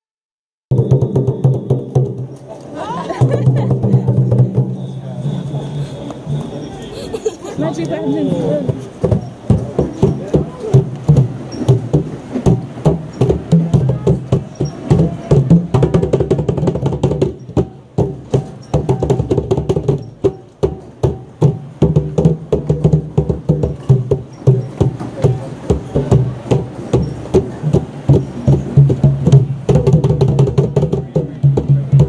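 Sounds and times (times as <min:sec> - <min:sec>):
hand drums slaps and thumps: 0:00.7 - 0:02.5, 0:03.2 - 0:05.5, 0:08.3 - 0:32.0.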